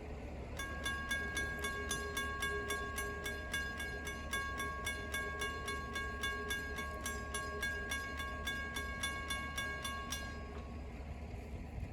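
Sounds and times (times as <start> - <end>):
crossing warning bell ringing: 0.6 - 11.3.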